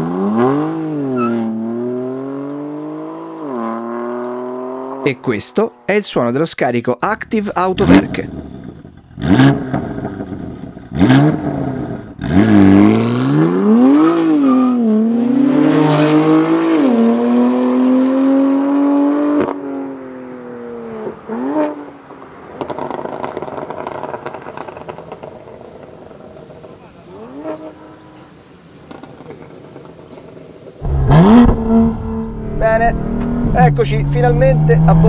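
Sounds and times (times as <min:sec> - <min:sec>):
car engine revving: 0:00.0 - 0:06.0, 0:07.2 - 0:35.0.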